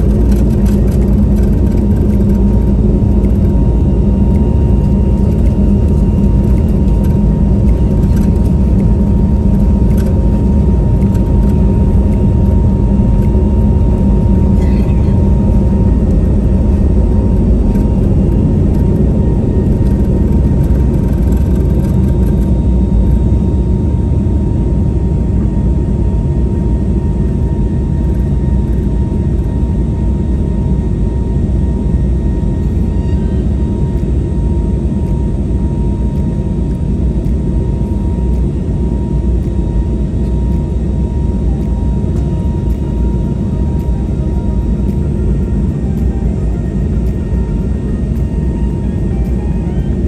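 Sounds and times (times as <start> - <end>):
faint steady whine: 0.0 - 50.0
jet engine rumble in cabin: 0.0 - 50.0.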